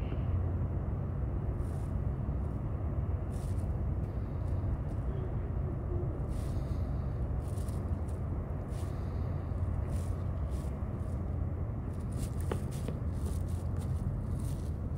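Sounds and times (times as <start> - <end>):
ship engines rumbling: 0.0 - 14.9.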